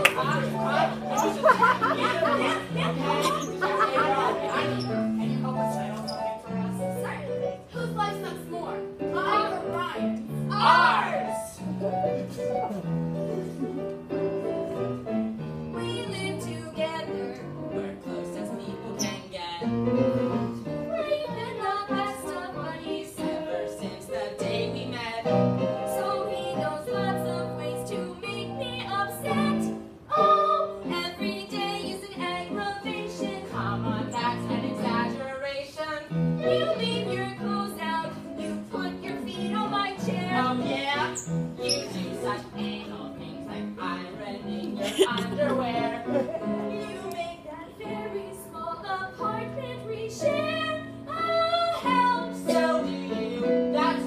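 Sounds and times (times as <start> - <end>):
piano accompaniment: 0.0 - 54.0.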